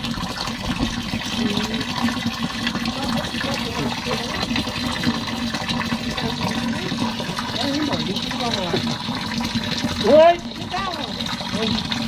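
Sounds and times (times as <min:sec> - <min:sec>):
hose water splashing into tank: 0:00.0 - 0:12.0.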